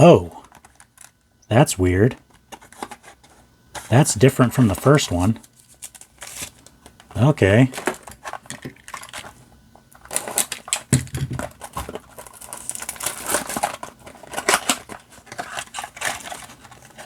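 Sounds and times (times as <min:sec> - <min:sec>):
card packs crinkling and rustling: 0:00.3 - 0:01.2, 0:01.9 - 0:17.0.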